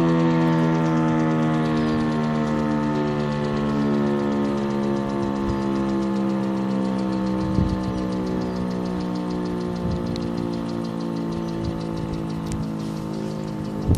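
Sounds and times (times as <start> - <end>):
warning siren steady tones: 0.0 - 13.9.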